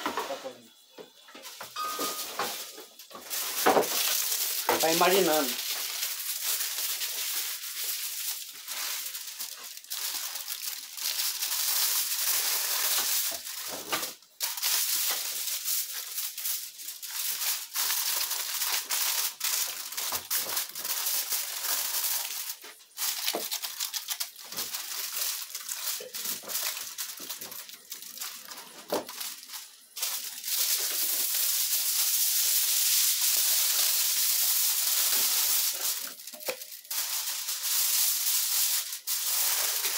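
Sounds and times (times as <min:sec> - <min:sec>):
aluminium foil crinkling: 0:00.0 - 0:39.9.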